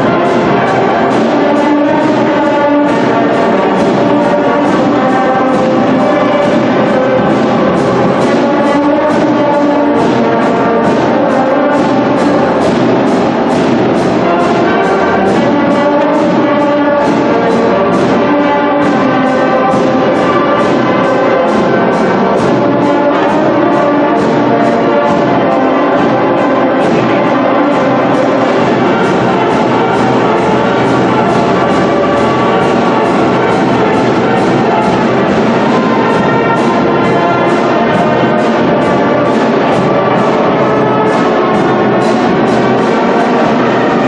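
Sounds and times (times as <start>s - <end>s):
brass instruments playing: 0.0s - 44.0s
steady beat: 0.0s - 44.0s.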